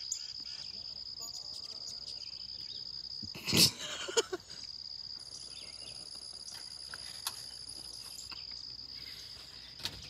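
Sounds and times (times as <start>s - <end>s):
higher insect trill: 0.0s - 10.0s
insect chorus trilling: 0.0s - 10.0s.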